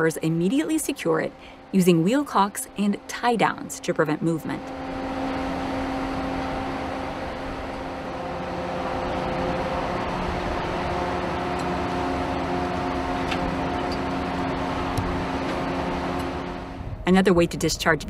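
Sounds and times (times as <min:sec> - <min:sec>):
ship machinery drone: 0:00.0 - 0:18.0.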